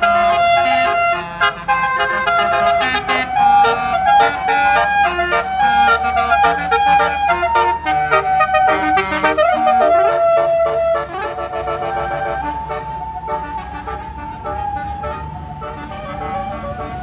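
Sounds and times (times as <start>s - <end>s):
musical air horn tune: 0.0s - 17.0s.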